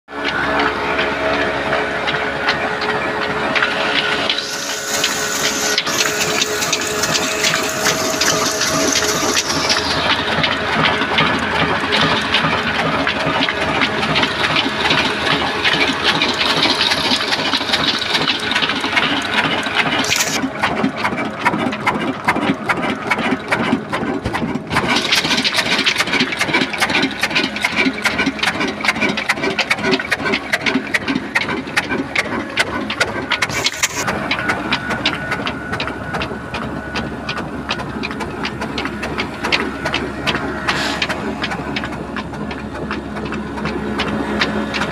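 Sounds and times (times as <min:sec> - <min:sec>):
diesel engine knocking and rattling: 0:00.0 - 0:44.9.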